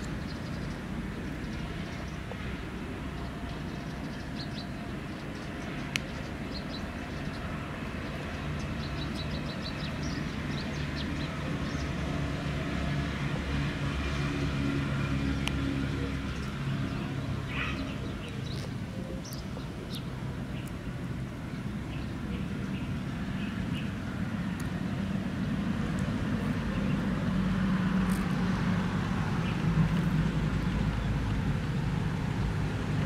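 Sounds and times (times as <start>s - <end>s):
vehicle engine hum: 0.0s - 33.0s.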